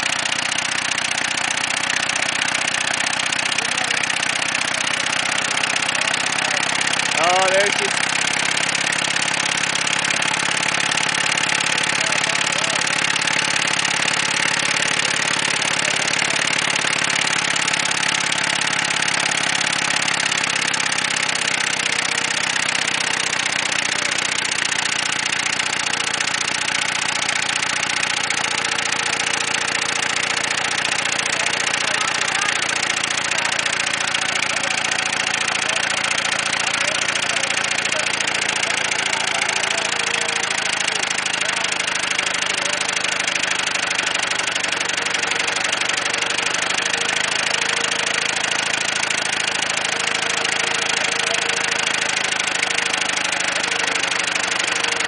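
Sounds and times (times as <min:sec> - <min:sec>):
engine idling with rod knock clatter: 0:00.0 - 0:55.0.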